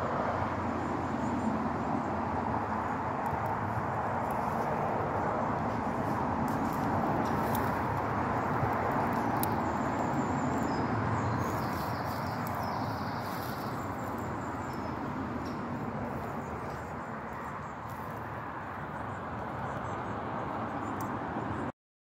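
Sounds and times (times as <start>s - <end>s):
outdoor background noise: 0.0s - 21.7s.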